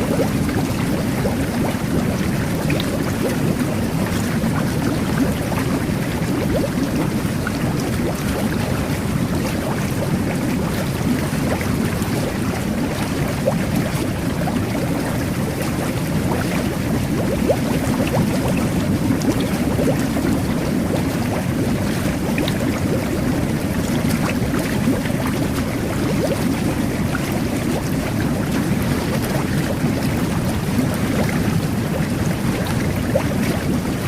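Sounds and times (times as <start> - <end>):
jet bath water bubbling: 0.0 - 34.0.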